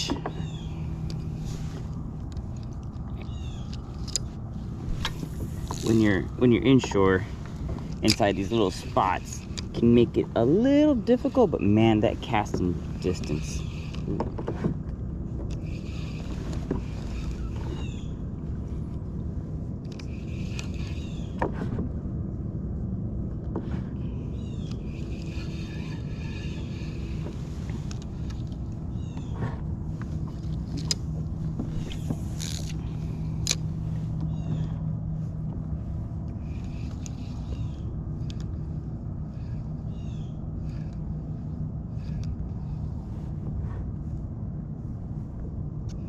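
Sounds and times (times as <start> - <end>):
water: 0.0 - 46.0
wind rumble: 0.0 - 46.0.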